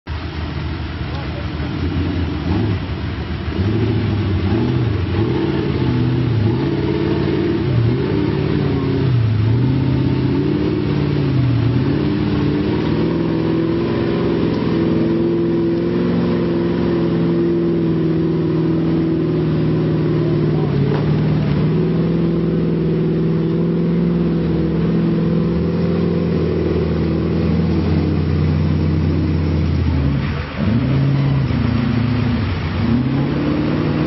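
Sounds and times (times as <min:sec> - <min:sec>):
truck engine revving: 0:00.2 - 0:34.0.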